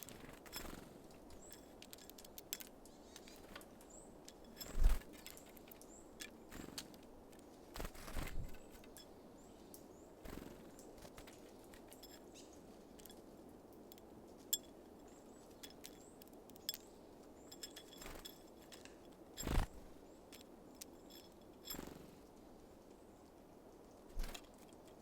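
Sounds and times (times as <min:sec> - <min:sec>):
birds tapping at feeder: 0:00.0 - 0:09.2, 0:10.2 - 0:22.1.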